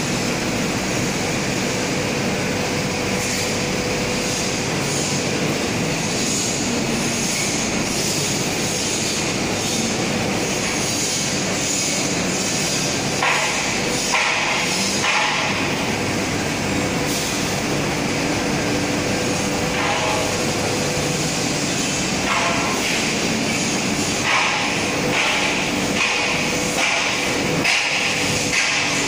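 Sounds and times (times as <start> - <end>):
machine hiss: 0.0 - 29.0
machine hum: 0.0 - 29.0.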